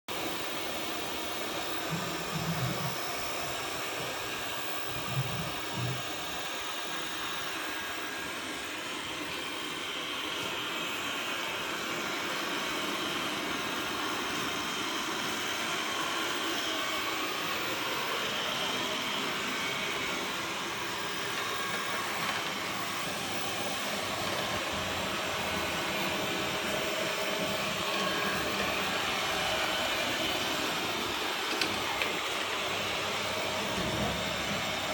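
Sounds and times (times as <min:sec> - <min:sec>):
robot vacuum cleaner whirring: 0:00.2 - 0:34.9.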